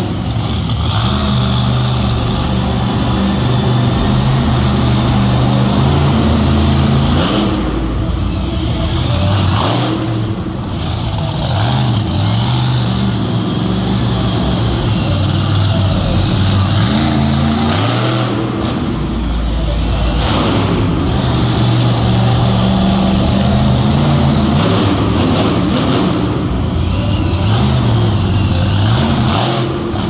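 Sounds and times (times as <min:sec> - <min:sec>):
truck engine revving hard: 0:00.0 - 0:30.0.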